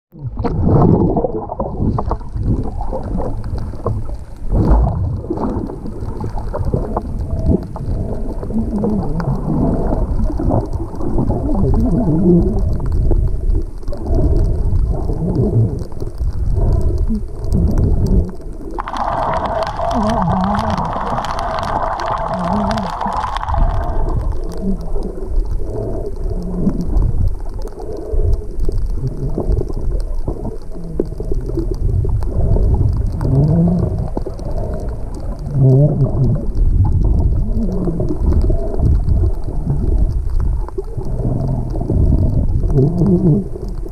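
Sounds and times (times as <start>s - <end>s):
muffled underwater rumble and sloshing: 0.1s - 43.9s.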